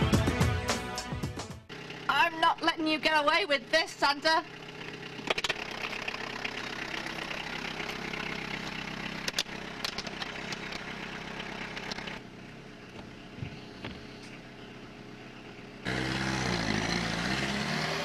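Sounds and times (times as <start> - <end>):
car engine idling: 1.6 - 17.9.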